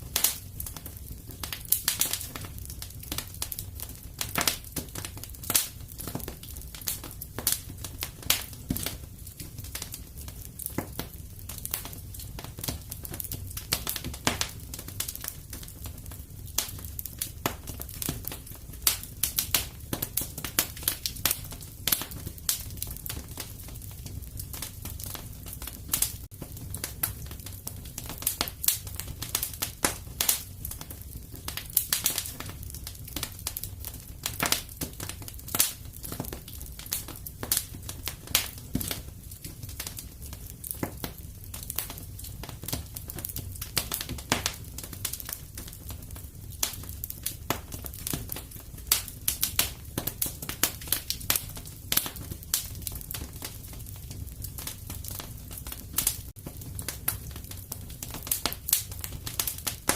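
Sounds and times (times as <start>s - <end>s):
fireplace fire crackling: 0.0s - 59.9s.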